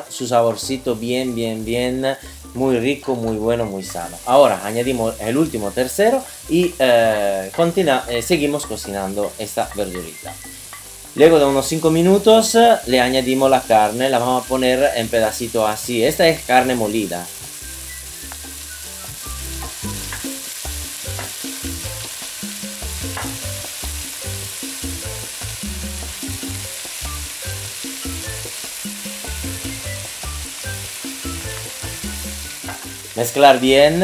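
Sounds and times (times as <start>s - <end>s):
vegetables sizzling in a pot: 0.0s - 34.0s.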